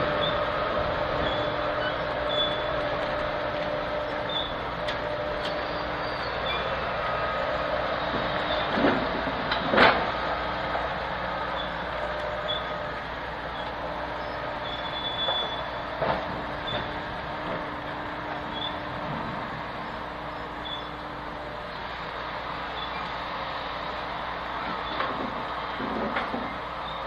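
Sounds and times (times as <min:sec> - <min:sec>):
work train running on track: 0:00.0 - 0:27.0.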